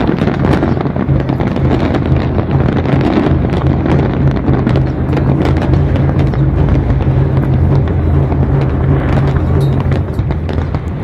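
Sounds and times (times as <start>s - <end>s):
firework crackles: 0.0s - 11.0s
low rumble of firework bursts: 0.0s - 11.0s.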